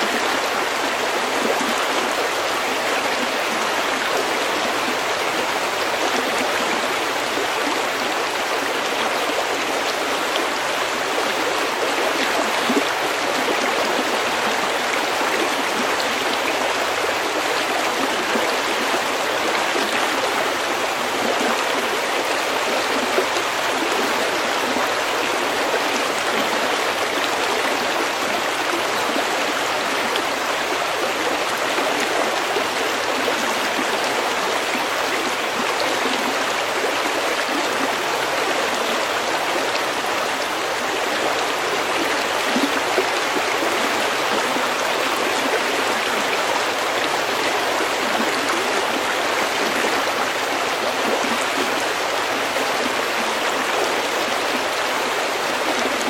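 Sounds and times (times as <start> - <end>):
stream babbling over pebbles: 0.0 - 56.0.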